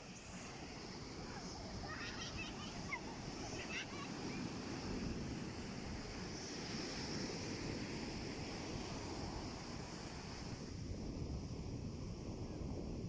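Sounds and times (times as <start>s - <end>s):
sea waves washing in: 0.0s - 11.2s
wind on microphone: 0.4s - 13.0s.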